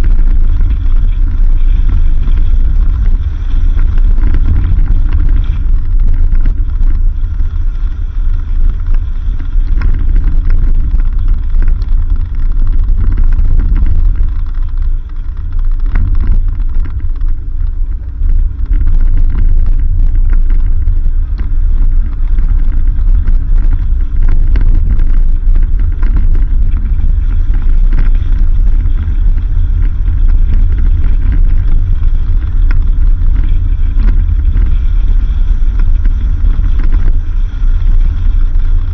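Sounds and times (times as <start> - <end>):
vehicle rumbling on dirt road: 0.0 - 38.9.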